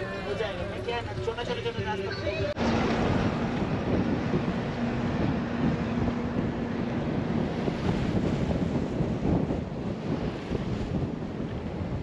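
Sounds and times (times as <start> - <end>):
moving bus noise: 0.0 - 9.9
wind buffeting microphone: 0.8 - 12.0.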